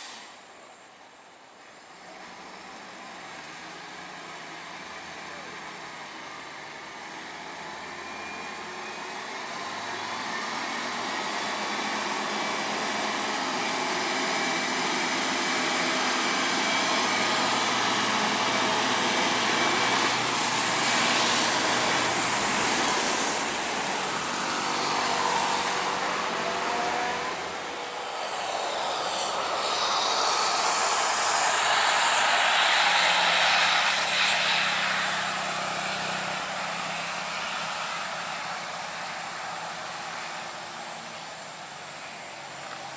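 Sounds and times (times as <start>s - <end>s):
truck engine droning: 2.0s - 42.9s.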